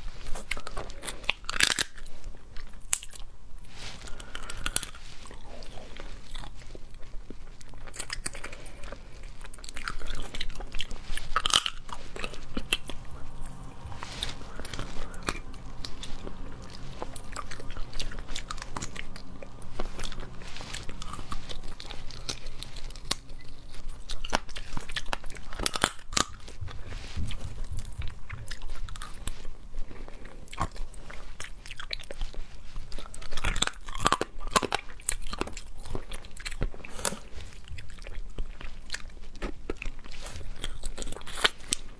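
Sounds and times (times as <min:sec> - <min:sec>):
crab shell crunching while chewing: 0:00.0 - 0:41.9.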